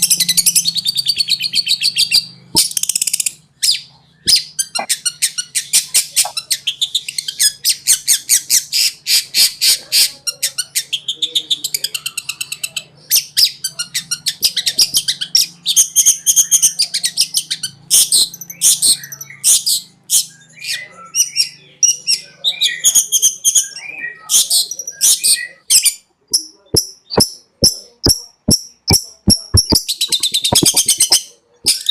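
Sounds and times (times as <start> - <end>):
bird chattering song: 0.0 - 31.9.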